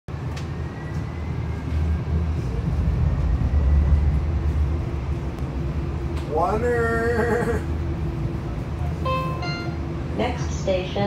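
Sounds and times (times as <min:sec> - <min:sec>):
train car rumble: 0:00.1 - 0:11.0
faint high whine rising: 0:00.6 - 0:10.4.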